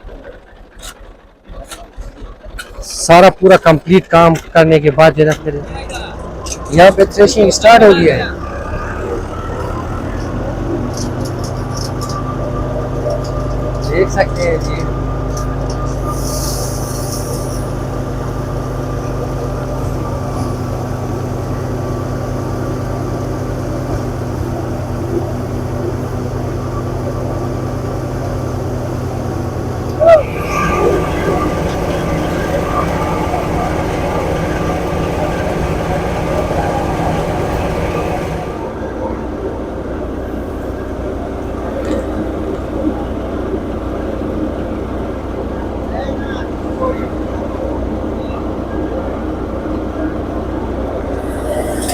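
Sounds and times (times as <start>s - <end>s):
tractor engine drone: 0.0s - 51.9s
thresher whine: 6.2s - 51.9s.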